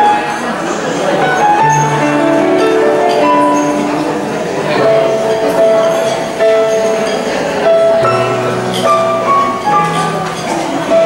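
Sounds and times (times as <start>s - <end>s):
keyboard playing held notes: 0.0s - 11.0s.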